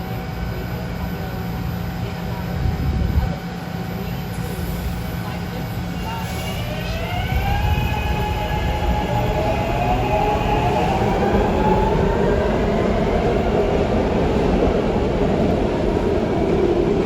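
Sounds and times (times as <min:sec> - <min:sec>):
rumble of wheels on rail: 0:00.0 - 0:17.0.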